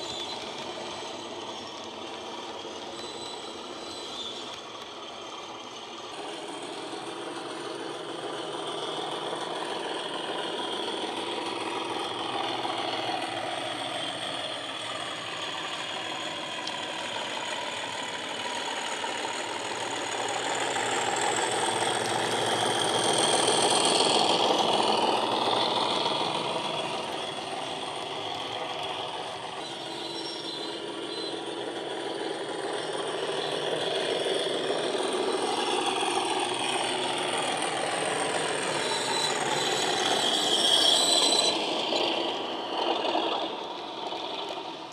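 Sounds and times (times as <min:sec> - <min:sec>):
model diesel engine sound: 0:00.0 - 0:44.9.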